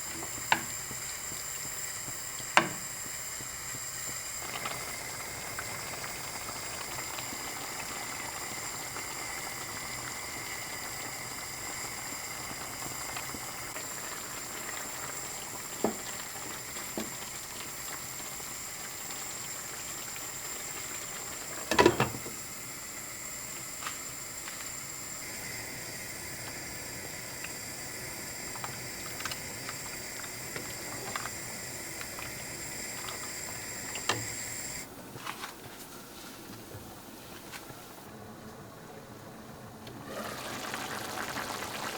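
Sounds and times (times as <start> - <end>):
sauce simmering and bubbling: 0.0 - 34.8, 40.0 - 41.9.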